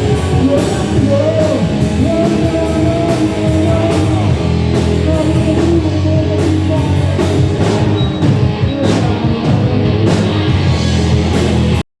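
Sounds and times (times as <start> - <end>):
rock music: 0.0 - 11.8.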